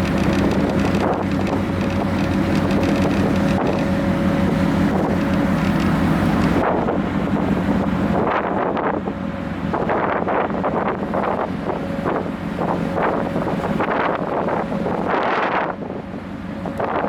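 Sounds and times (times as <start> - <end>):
low drone from ship: 0.0 - 17.0
wind buffeting microphone: 0.0 - 17.0.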